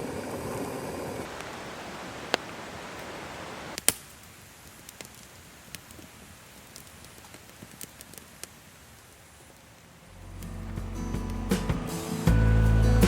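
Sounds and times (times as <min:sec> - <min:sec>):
light rain: 0:00.0 - 0:13.0.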